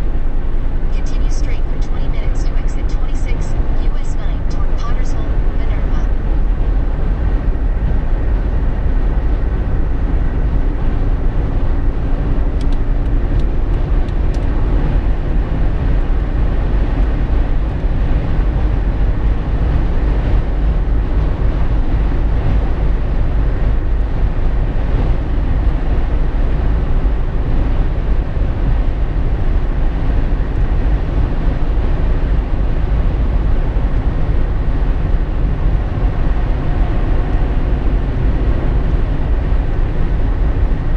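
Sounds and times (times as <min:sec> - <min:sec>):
in-cabin driving rumble: 0:00.0 - 0:40.9.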